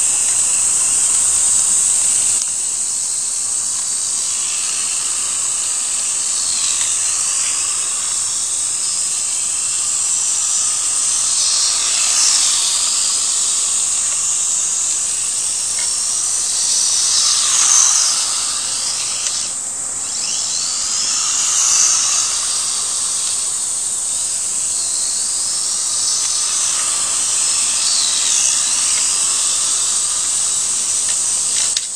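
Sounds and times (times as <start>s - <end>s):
small electric motor whining: 0.0s - 31.9s
steady hiss: 0.0s - 31.9s.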